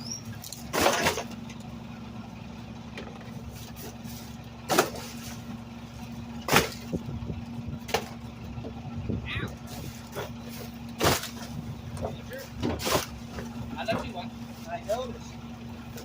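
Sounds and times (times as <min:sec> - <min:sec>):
garbage truck engine drone: 0:00.0 - 0:16.0.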